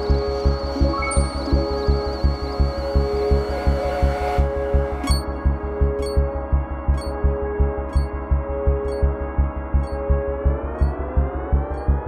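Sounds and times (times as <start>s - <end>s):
pulsing bass beat: 0.0s - 12.0s.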